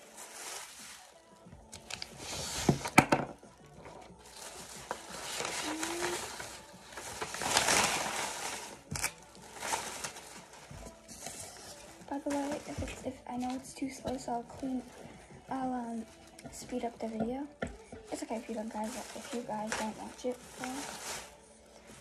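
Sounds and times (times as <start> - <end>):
papers rustling and crinkling: 0.0 - 22.0.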